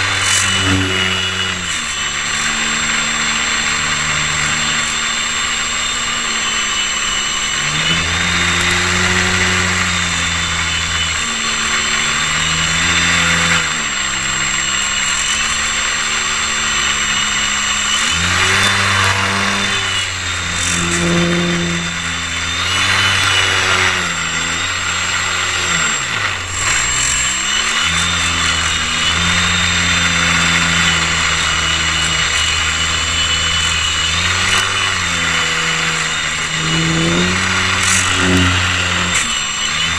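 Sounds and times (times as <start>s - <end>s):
motor running: 0.0s - 39.9s
thin high whine: 0.0s - 39.9s.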